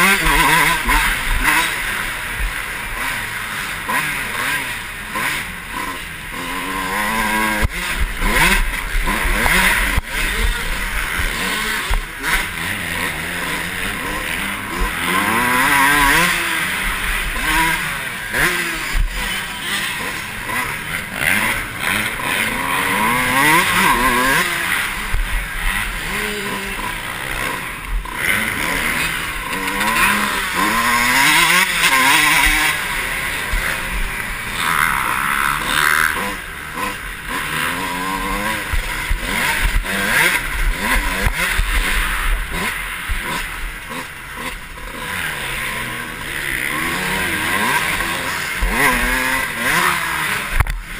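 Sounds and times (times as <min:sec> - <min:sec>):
constant rushing noise: 0:00.0 - 0:50.9
dirt bike engine revving: 0:00.0 - 0:50.9.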